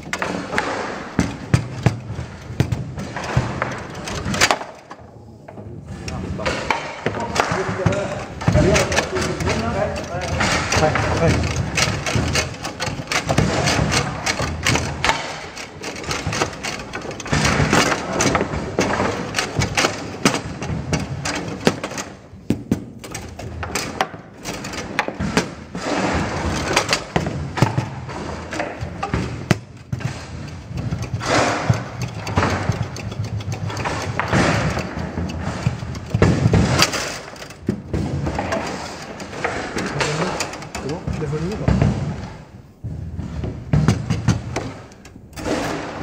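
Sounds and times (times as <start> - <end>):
rods knocking: 0.0 - 46.0
table football ball clattering: 0.0 - 46.0.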